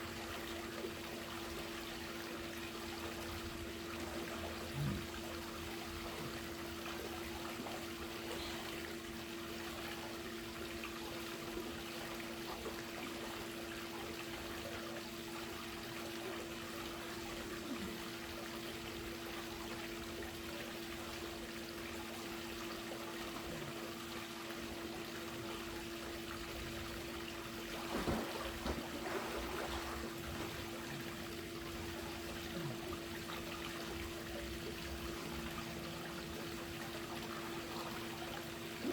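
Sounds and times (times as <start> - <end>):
pool water trickling and pouring: 0.0 - 38.9
steady low hum: 0.0 - 38.9.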